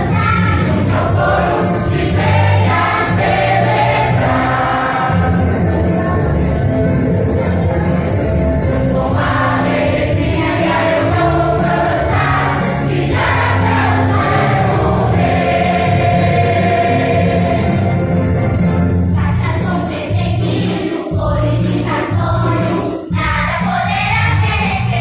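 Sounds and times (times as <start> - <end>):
choir singing: 0.0 - 23.8
instrumental accompaniment: 0.0 - 25.0.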